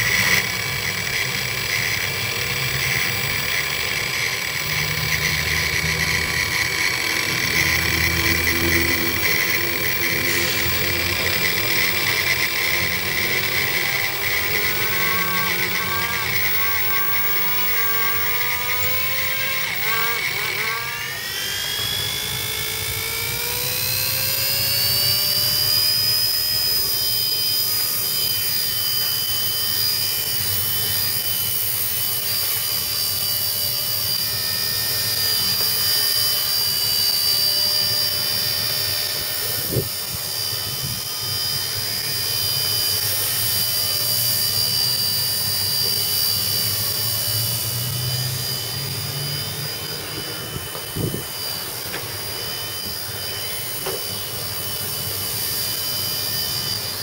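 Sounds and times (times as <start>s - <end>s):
model helicopter rotor whine: 0.0s - 57.0s.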